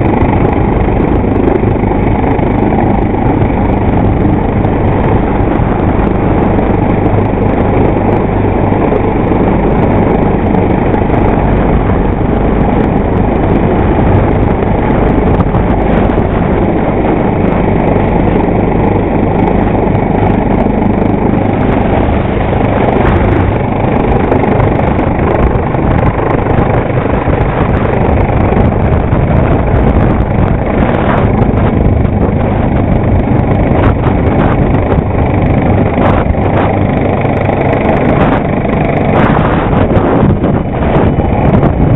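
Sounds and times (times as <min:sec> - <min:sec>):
helicopter hovering overhead: 0:00.0 - 0:41.9.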